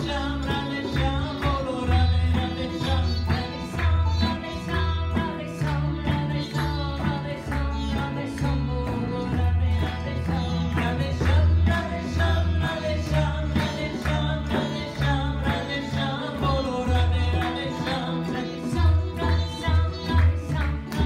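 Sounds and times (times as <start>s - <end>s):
harmonium: 0.0s - 21.0s
tabla drum beat: 0.0s - 21.0s
upright bass notes: 0.0s - 21.0s
women singing devotional chant: 0.0s - 21.0s.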